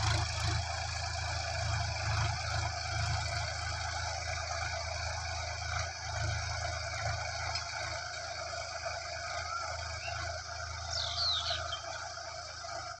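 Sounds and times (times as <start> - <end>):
tractor engine running under load: 0.0 - 13.0.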